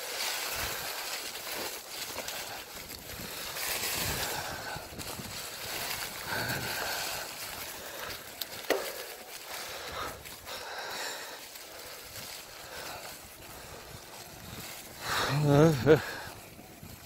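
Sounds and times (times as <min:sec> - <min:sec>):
bicycle tyres crunching dry leaves: 0:00.0 - 0:17.0.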